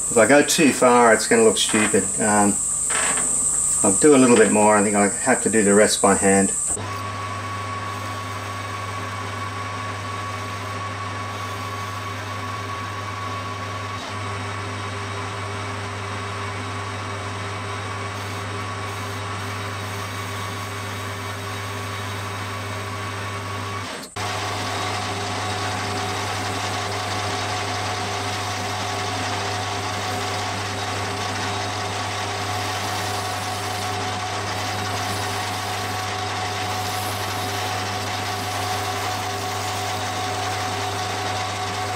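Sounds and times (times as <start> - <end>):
metal lathe running: 0.0 - 23.2, 23.8 - 41.9.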